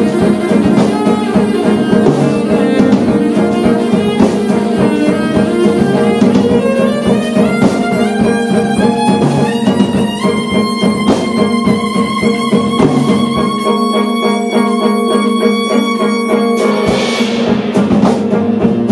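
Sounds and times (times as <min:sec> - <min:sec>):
bowed cello: 0:00.0 - 0:18.9
drum kit: 0:00.0 - 0:18.9
electric guitar: 0:00.0 - 0:18.9.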